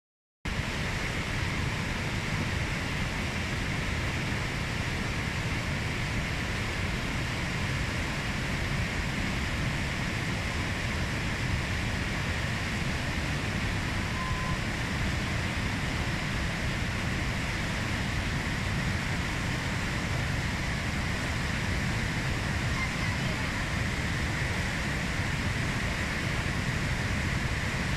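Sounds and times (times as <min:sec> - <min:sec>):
rushing floodwater: 0:00.5 - 0:27.9.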